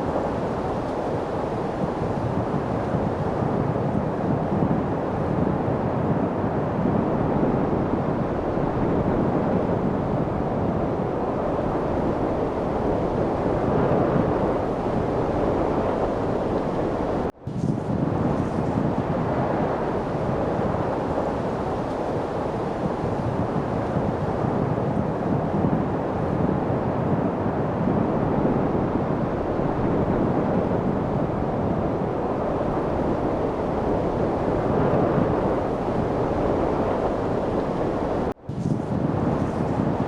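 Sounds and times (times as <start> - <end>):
steady wind rushing: 0.0 - 40.0.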